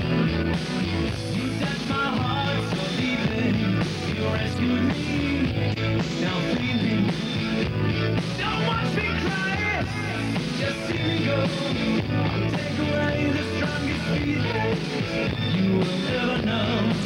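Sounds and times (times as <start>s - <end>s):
rock band music: 0.0s - 17.0s.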